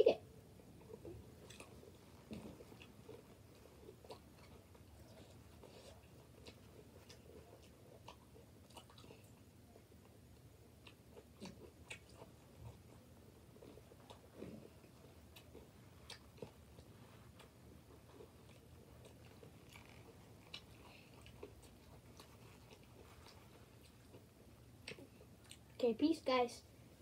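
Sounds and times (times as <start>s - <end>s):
faint chewing: 0.5s - 25.8s.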